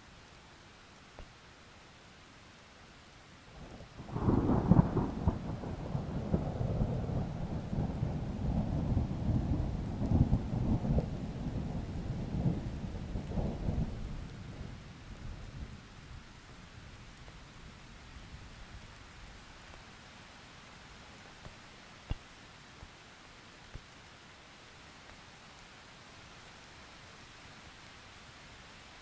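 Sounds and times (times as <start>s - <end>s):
faint rain hiss: 0.0s - 29.0s.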